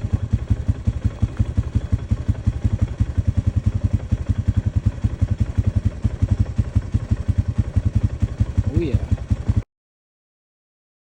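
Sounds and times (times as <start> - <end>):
engine idling with low thumping: 0.0 - 9.7.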